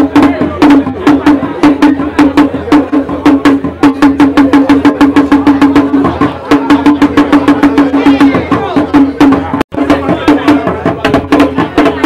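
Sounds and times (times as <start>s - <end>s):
drum struck with sticks: 0.0s - 12.0s.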